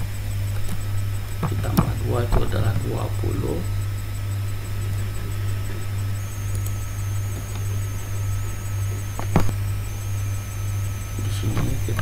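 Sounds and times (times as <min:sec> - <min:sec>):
faint high-pitched whine: 0:00.0 - 0:12.0
low electrical hum: 0:00.0 - 0:12.0.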